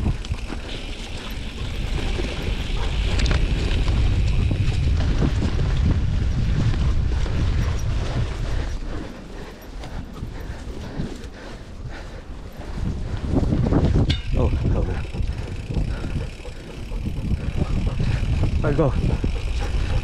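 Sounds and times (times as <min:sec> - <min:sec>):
bicycle frame rattling: 0:00.0 - 0:20.0
bicycle tyre rumble on dirt: 0:00.0 - 0:20.0
wind buffeting microphone: 0:00.0 - 0:20.0.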